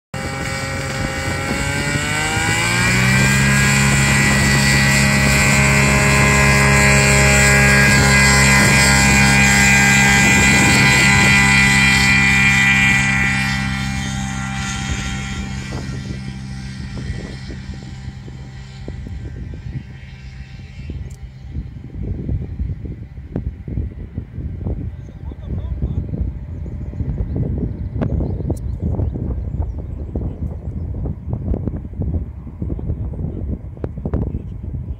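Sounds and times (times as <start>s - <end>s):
glider engine and propeller: 0.1s - 34.9s.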